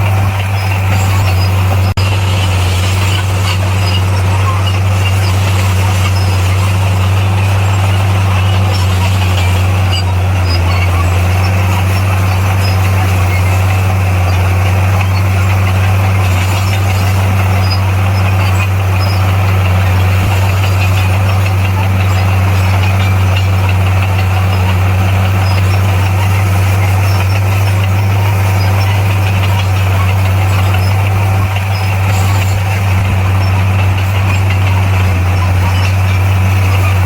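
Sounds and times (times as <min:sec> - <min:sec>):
bulldozer diesel engine droning: 0:00.0 - 0:37.0.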